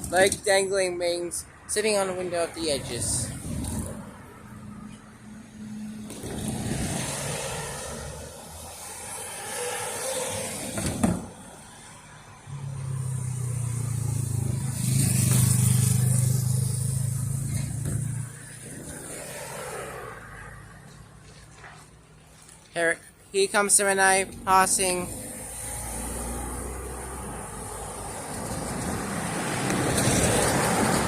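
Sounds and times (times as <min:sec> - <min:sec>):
vehicle engine hum: 0:01.4 - 0:31.0.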